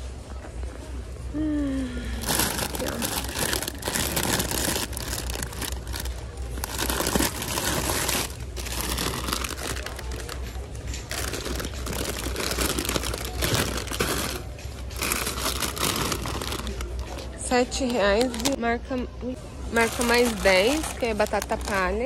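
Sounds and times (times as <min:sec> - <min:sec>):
crinkling and rustling: 0:02.2 - 0:18.6, 0:19.7 - 0:22.0.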